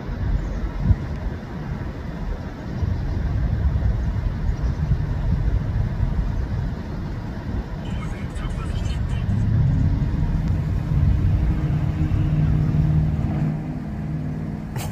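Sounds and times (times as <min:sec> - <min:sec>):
jet airliner rumble: 0:00.0 - 0:14.9.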